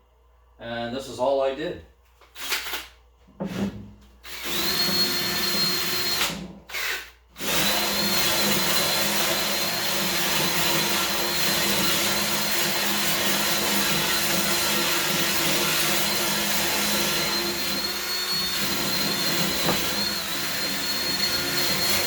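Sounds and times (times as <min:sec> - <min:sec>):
electric power tool whining: 0:04.3 - 0:22.0.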